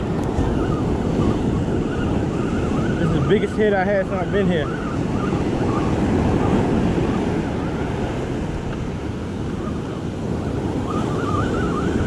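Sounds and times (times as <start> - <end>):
thin wavering high tone: 0.0 - 7.8, 9.6 - 12.0
wind buffeting microphone: 0.0 - 12.0.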